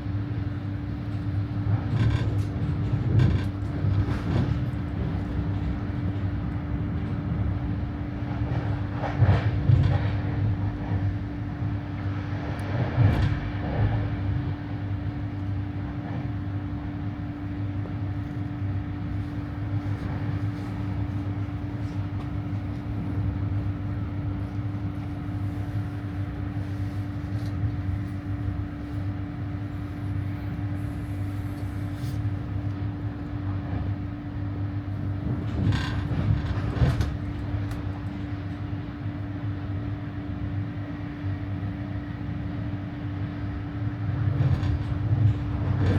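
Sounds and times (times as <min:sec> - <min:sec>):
constant hum: 0:00.0 - 0:45.9
train wheels rumbling on rail: 0:00.0 - 0:45.9.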